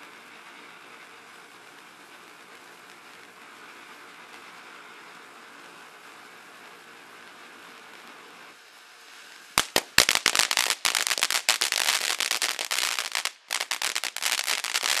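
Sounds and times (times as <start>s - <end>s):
firework fountain hissing: 0.0s - 15.0s
firework rapid crackling: 0.0s - 15.0s.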